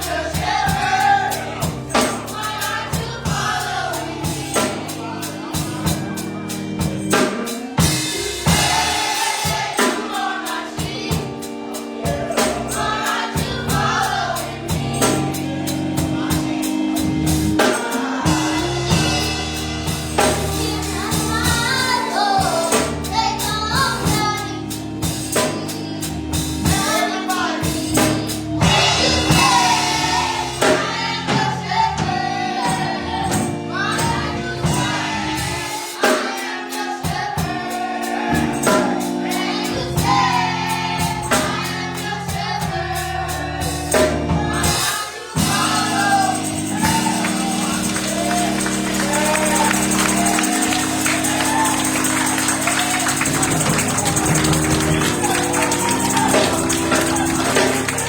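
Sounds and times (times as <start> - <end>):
band with steady drum beat: 0.0 - 58.0
children's choir singing gospel: 0.0 - 58.0.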